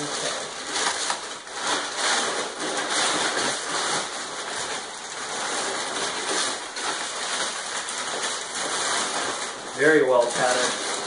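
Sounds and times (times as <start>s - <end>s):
packing paper rustling: 0.0s - 11.0s.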